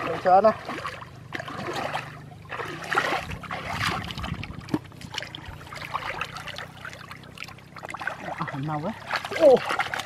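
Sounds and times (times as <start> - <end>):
muddy water splashing: 0.0 - 10.0.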